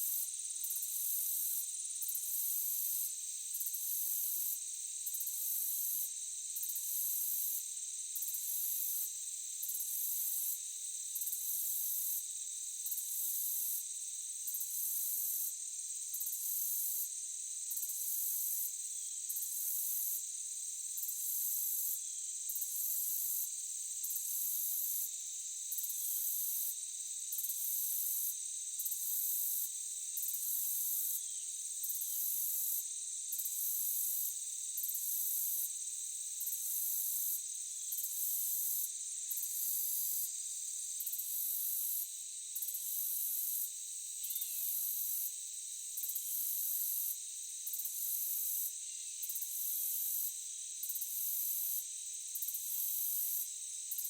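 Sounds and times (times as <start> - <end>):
high insect trill: 0.0 - 54.0
insects droning: 0.0 - 54.0.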